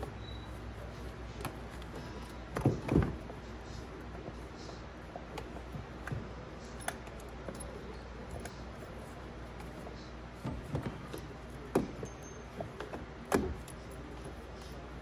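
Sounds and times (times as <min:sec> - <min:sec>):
hand tools clicking and knocking: 0:00.0 - 0:15.0.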